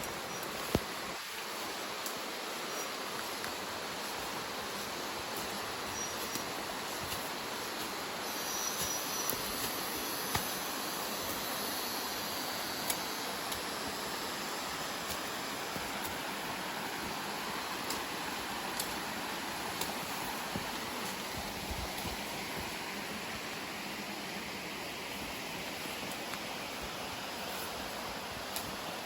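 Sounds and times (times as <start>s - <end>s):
falling water rushing: 0.0s - 29.0s.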